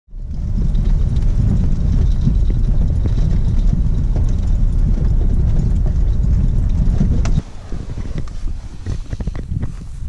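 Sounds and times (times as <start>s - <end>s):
car rumbling on dirt track: 0.1s - 10.0s
small knocks and rattles: 0.1s - 10.0s.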